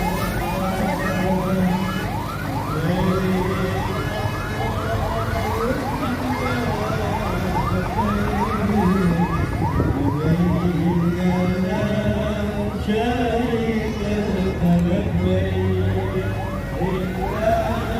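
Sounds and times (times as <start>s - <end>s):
siren yelping: 0.0s - 13.0s, 15.6s - 17.9s.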